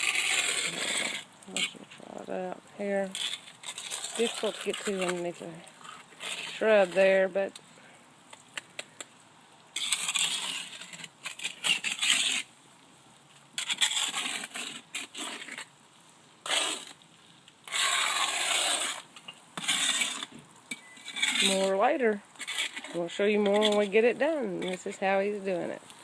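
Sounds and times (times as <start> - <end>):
hand tool scraping mortar on stone: 0.0 - 7.6, 9.8 - 12.5, 13.6 - 15.7, 16.4 - 17.0, 17.6 - 25.8.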